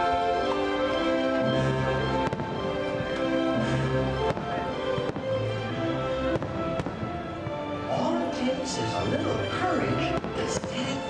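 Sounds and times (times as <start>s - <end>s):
fireworks bursting: 0.0s - 7.8s, 8.8s - 11.0s
fireworks show music: 0.0s - 11.0s.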